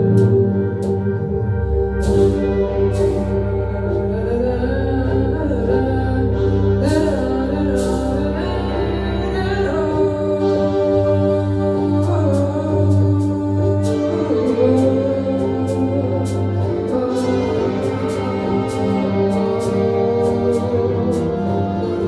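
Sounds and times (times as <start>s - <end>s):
gliding higher synth lines: 0.0s - 22.0s
sustained drone tones: 0.0s - 22.0s.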